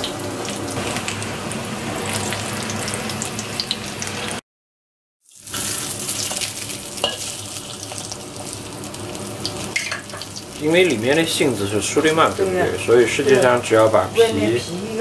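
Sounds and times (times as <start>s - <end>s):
dumplings sizzling in oil: 0.0s - 4.4s, 5.2s - 15.0s.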